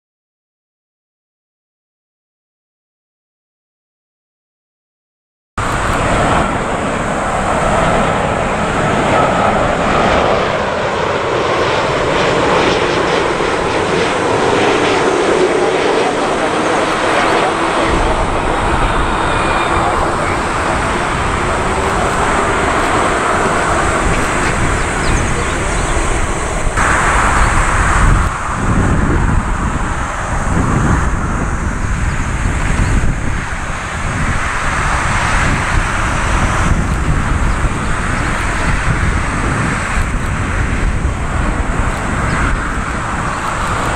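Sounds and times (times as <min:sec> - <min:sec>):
jet engine roar: 0:05.6 - 0:43.9
wind buffeting microphone: 0:05.6 - 0:43.9.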